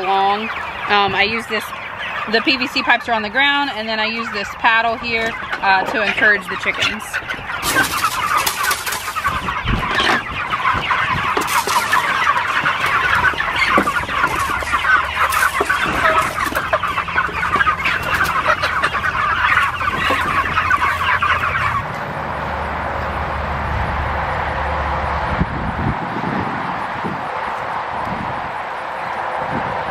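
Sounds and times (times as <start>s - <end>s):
chickens clucking and cheeping: 0.0s - 29.9s.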